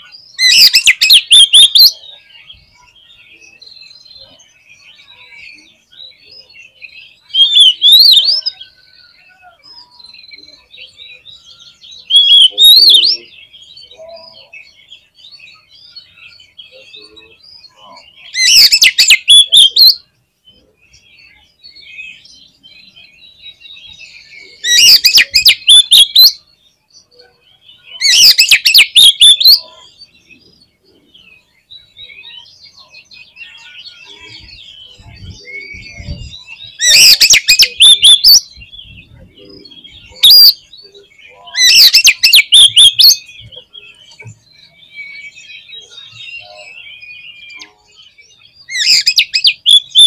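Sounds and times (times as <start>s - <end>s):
harsh bird song bursts: 0.0s - 16.6s, 17.5s - 26.8s, 27.8s - 50.0s
quiet bird twittering: 0.0s - 50.0s.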